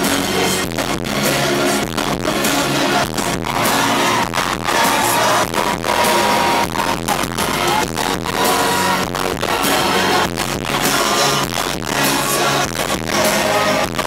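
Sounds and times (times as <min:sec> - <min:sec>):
pop band music over loudspeakers: 0:00.0 - 0:14.0.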